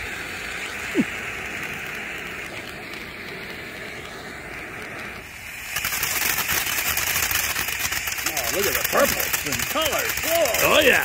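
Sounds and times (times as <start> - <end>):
dense rapid crackling: 0.0 - 11.0
firework fountain hissing: 0.0 - 11.0.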